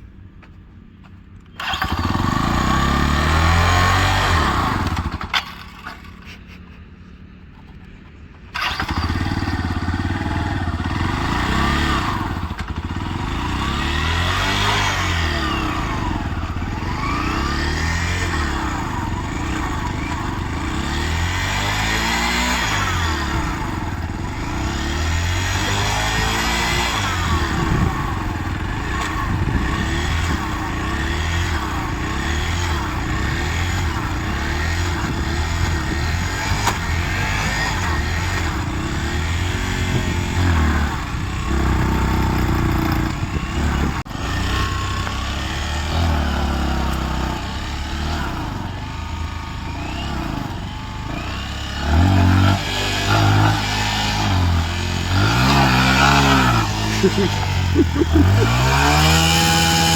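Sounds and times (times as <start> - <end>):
vehicle engine revving: 1.6 - 5.7, 8.6 - 59.9.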